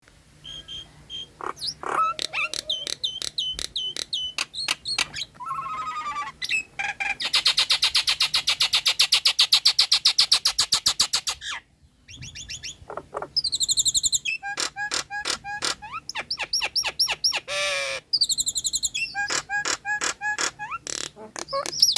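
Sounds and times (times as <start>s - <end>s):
myna whistles and calls: 0.4s - 20.8s, 21.4s - 21.9s.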